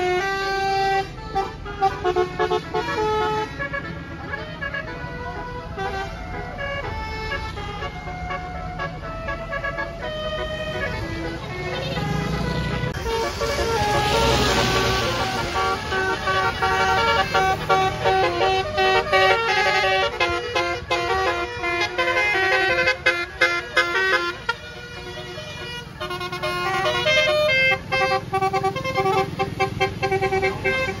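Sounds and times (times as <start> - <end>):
multi-tone musical bus horn: 0.0 - 31.0.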